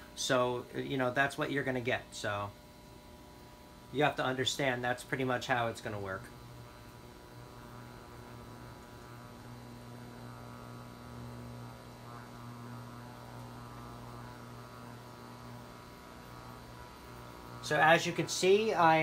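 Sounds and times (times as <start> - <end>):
cooktop hum: 0.0 - 19.0
cooling fan running: 0.0 - 19.0.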